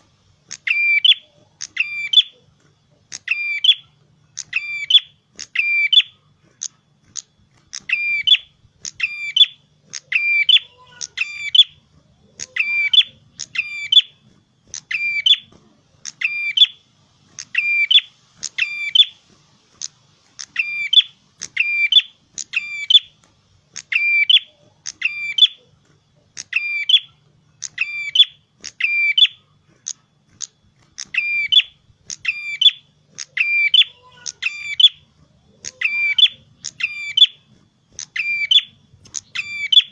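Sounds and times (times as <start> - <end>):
songbird calling: 0.5 - 2.5, 3.1 - 19.2, 19.8 - 39.9.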